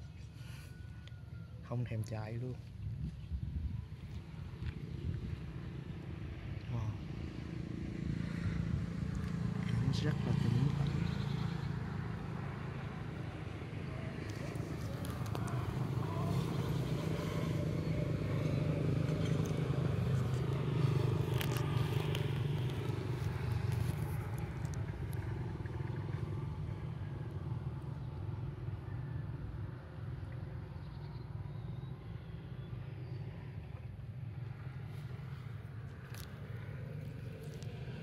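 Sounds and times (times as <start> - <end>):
engine humming: 4.2 - 38.0.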